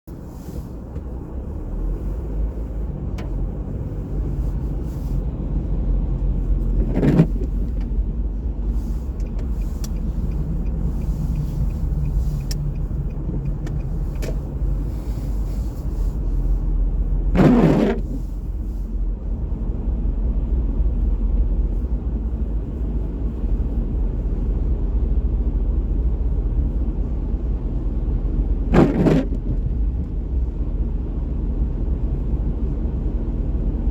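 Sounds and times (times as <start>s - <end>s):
road traffic rumble: 0.1s - 33.9s.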